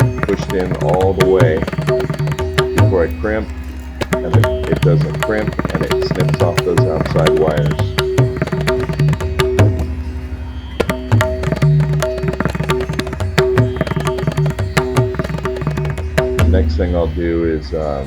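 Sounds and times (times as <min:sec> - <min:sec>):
drum strikes: 0:00.0 - 0:03.3, 0:04.0 - 0:09.9, 0:10.8 - 0:16.8
steady held notes: 0:00.0 - 0:18.0.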